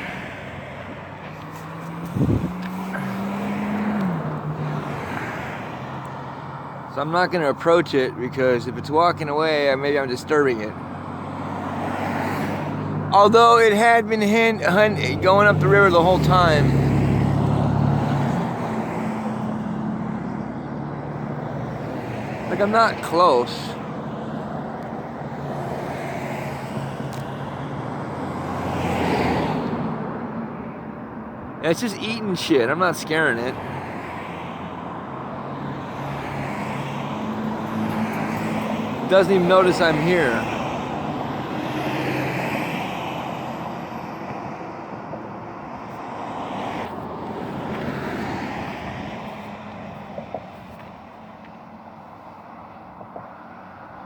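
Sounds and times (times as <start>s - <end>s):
vehicle passing: 0.0s - 30.8s, 31.5s - 51.9s
road traffic hum and tyre noise: 0.0s - 54.0s.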